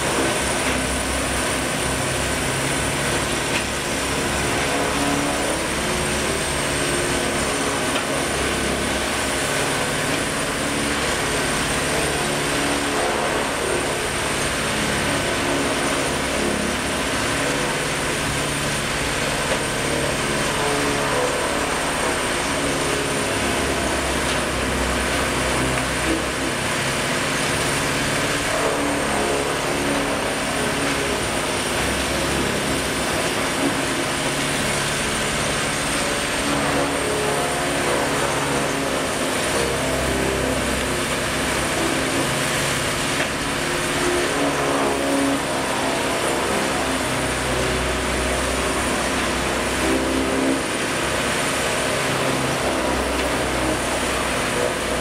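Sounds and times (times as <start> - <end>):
grinder machine running: 0.0 - 55.0.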